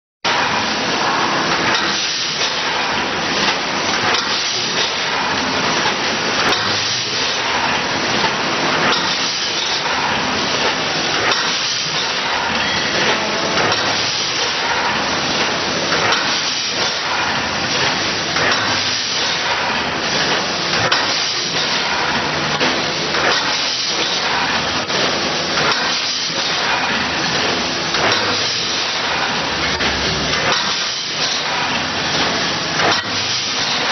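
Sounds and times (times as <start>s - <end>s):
packaging machine hiss: 0.3s - 29.4s.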